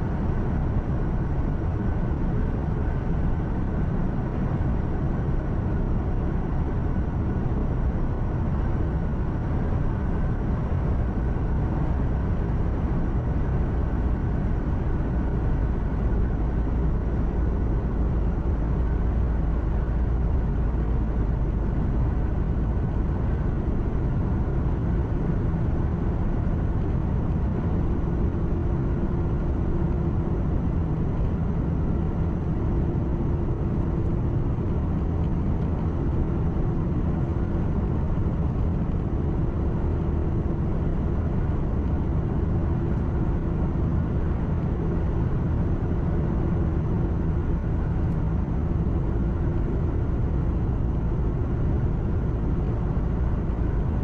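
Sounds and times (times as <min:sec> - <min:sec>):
faint constant hum: 0:00.0 - 0:54.0
road rumble: 0:00.0 - 0:54.0.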